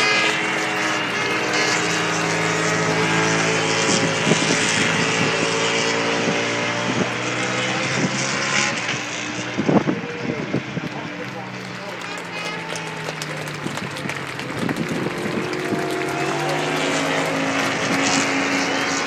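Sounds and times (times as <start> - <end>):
crowd and track noise: 0.0 - 19.0
racing motorcycle engines: 0.0 - 19.0.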